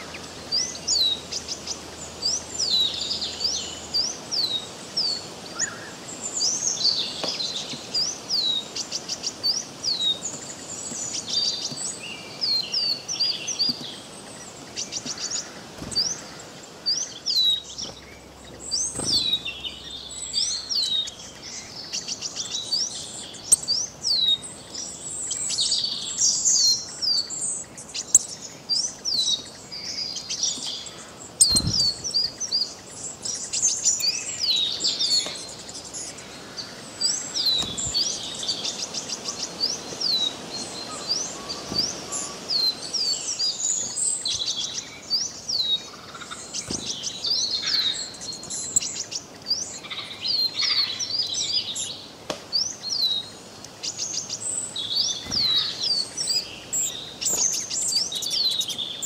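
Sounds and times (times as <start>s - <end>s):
faint background hiss: 0.0s - 59.0s
small birds chirping: 0.0s - 59.0s.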